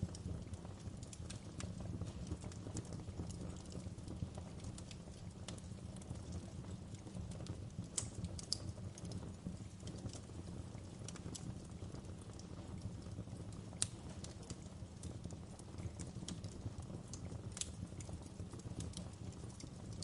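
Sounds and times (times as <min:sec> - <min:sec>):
campfire burning: 0:00.0 - 0:20.0.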